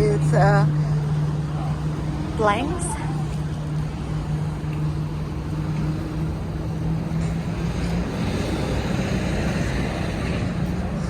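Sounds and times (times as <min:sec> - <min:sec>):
low engine hum: 0:00.0 - 0:11.0
street traffic: 0:00.0 - 0:11.0.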